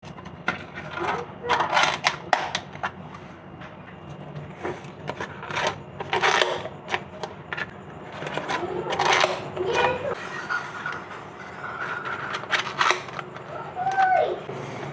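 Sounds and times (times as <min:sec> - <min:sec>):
scraping and rustling handling: 0:00.0 - 0:14.9.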